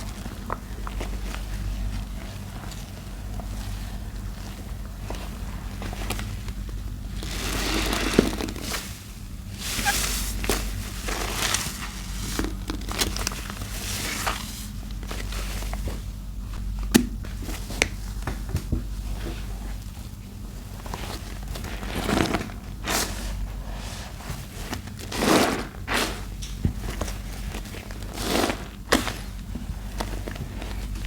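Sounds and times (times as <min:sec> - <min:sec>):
sponge squelching in soap paste: 0:00.0 - 0:16.1, 0:20.4 - 0:31.0
steady low hum: 0:00.0 - 0:31.0.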